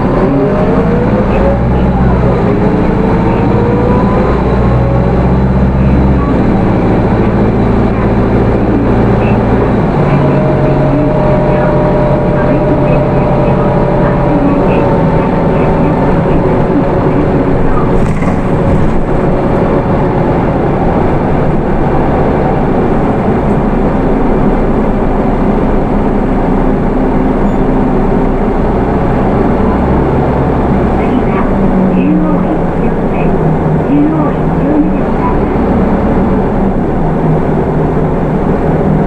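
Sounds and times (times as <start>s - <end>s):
bus engine humming: 0.0s - 39.0s
road noise: 0.0s - 39.0s.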